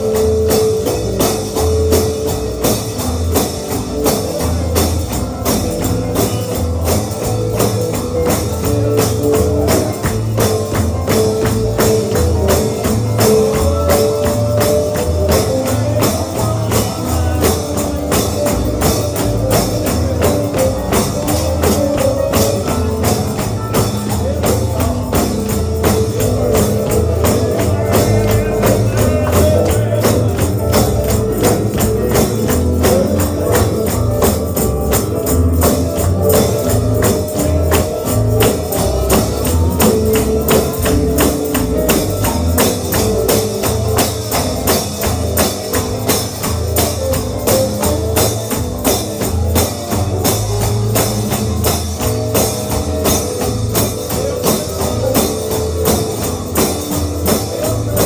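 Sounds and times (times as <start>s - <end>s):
bass line: 0.0s - 58.0s
instrumental bluegrass music: 0.0s - 58.0s
tambourine beat: 0.0s - 58.0s.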